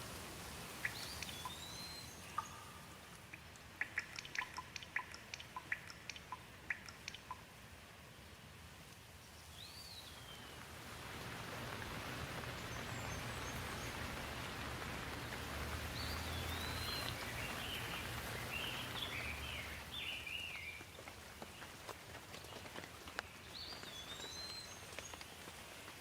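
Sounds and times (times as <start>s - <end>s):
rain falling: 0.0s - 26.0s
birds chirping: 0.7s - 7.5s, 9.3s - 26.0s.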